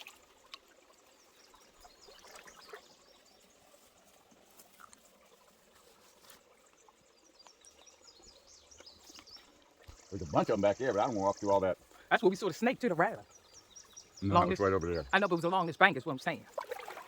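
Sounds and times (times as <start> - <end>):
creek trickling: 0.0 - 17.0.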